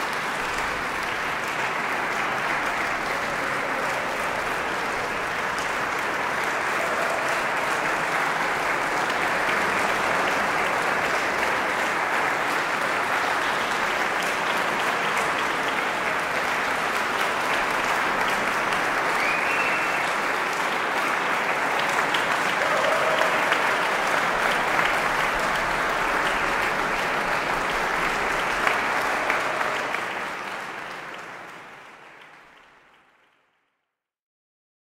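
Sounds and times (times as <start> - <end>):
audience applauding: 0.0 - 33.6.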